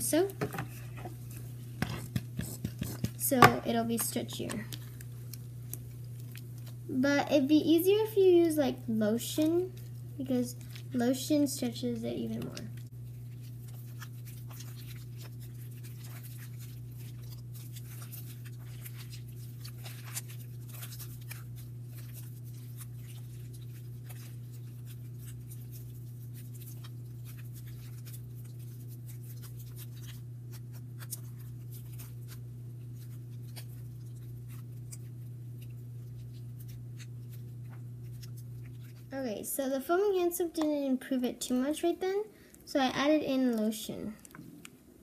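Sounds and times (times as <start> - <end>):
wet slime squishing: 0.0 - 45.0.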